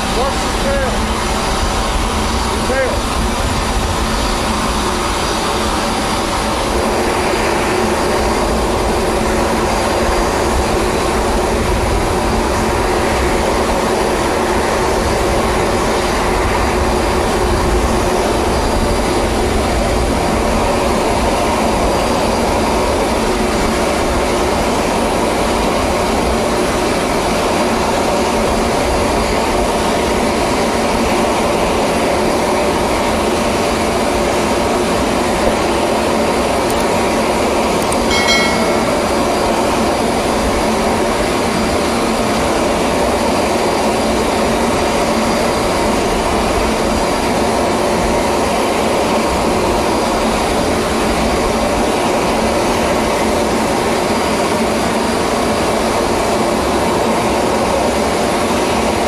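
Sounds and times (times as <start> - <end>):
aircraft turbine engines whining: 0.0 - 59.0.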